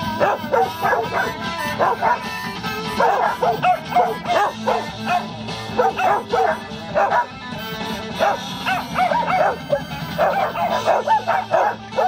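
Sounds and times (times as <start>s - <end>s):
dogs barking and yipping: 0.0s - 12.0s
music playing: 0.0s - 12.0s.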